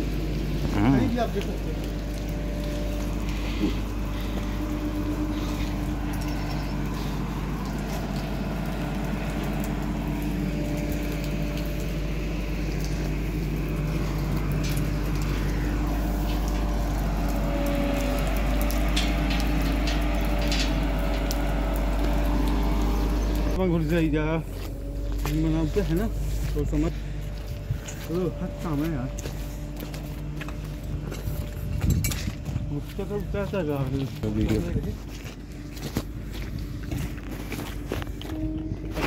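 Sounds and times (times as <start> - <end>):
construction machine engine rumbling: 0.0 - 39.0.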